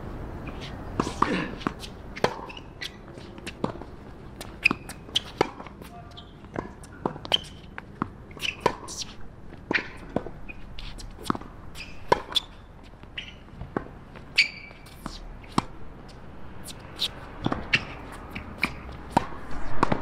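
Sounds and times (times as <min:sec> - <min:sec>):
tennis balls bouncing and struck: 0:00.4 - 0:20.0.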